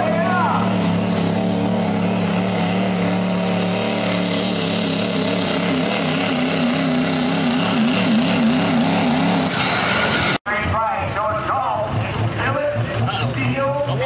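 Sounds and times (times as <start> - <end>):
diesel engine revving under load: 0.0 - 10.4, 11.2 - 14.0.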